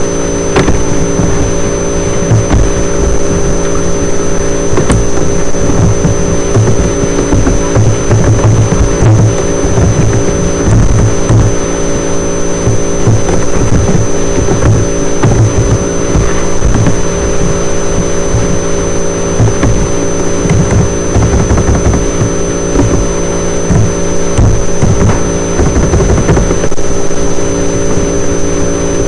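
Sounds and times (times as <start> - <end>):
electrical hum: 0.0 - 29.0
thin high whine: 0.0 - 29.0.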